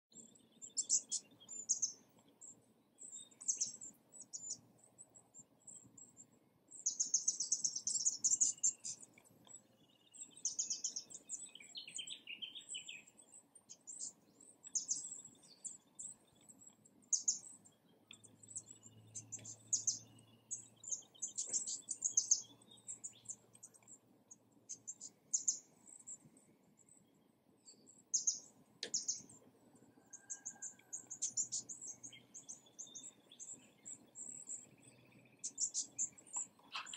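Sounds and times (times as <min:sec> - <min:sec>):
faint low background noise: 0:00.1 - 0:36.9
birds chirping and calling: 0:00.2 - 0:26.2, 0:27.7 - 0:36.9.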